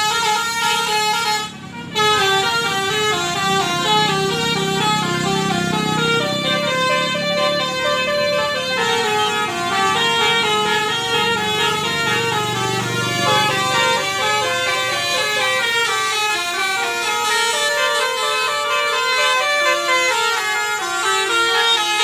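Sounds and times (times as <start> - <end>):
musical bus horn playing a tune: 0.0 - 22.0.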